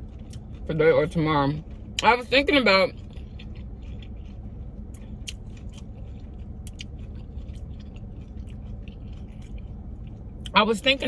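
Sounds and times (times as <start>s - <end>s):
person chewing food: 0.0s - 10.6s
steady low hum: 0.0s - 11.0s.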